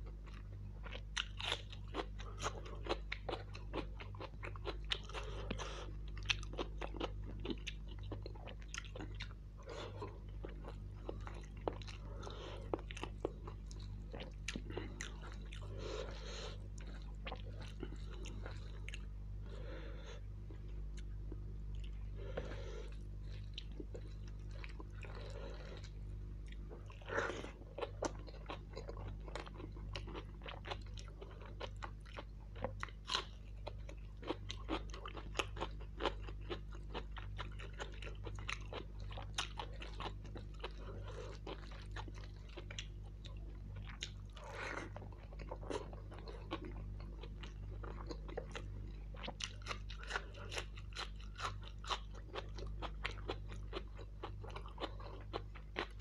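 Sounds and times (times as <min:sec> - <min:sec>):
chewing with crisp crunches: 0:00.0 - 0:56.0
steady low hum: 0:00.0 - 0:56.0.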